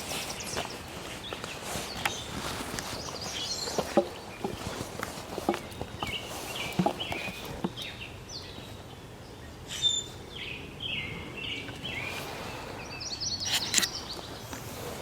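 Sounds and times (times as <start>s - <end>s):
bird calling: 0.0s - 14.6s.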